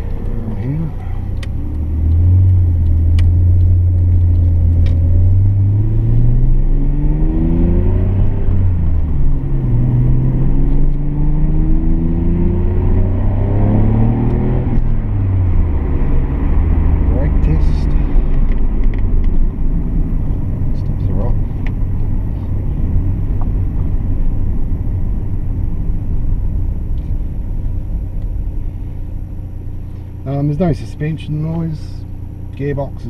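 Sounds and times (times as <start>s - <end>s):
car engine accelerating through gears: 0.0s - 31.9s.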